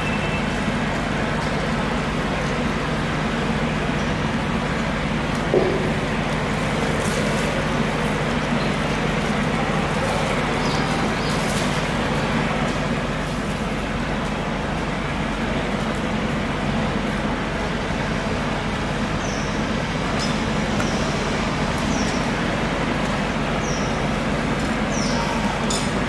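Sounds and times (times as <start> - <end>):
mechanical hum and rumble: 0.0 - 26.0.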